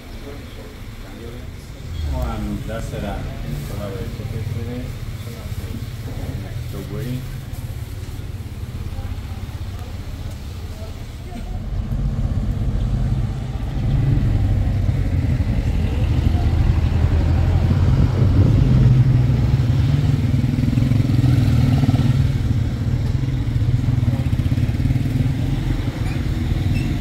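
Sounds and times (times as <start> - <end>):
vehicle engine droning: 0.0 - 27.0.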